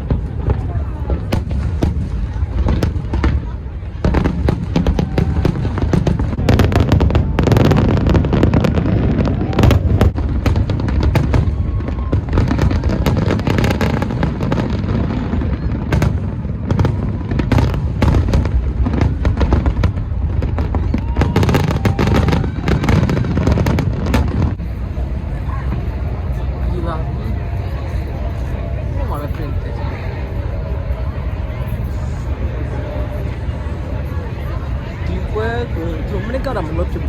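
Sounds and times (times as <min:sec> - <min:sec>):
steady low rumble: 0:00.0 - 0:36.1
fireworks bangs and crackles: 0:00.0 - 0:37.0.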